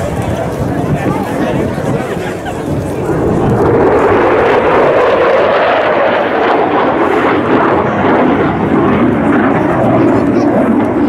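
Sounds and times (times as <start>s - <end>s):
jet engines roaring past: 0.0s - 11.0s.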